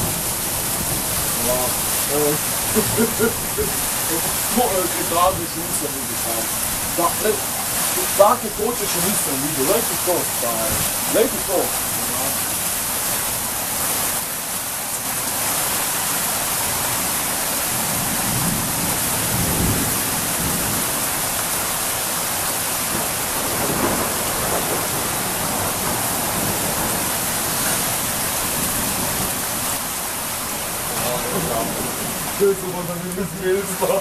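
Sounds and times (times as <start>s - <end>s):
hail and heavy rain on a roof: 0.0s - 34.0s.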